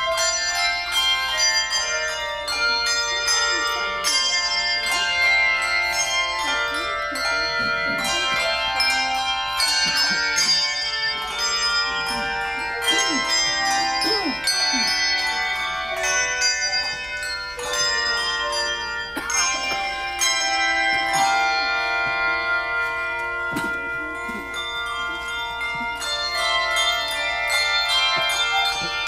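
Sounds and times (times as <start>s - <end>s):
handbell choir playing chords: 0.0s - 29.0s.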